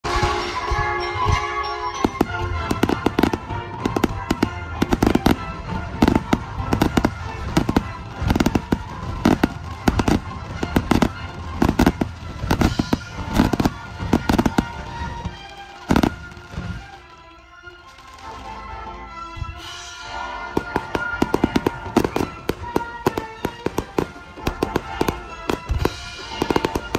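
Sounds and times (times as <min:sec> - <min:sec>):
firework bangs and crackles: 0:00.0 - 0:26.9.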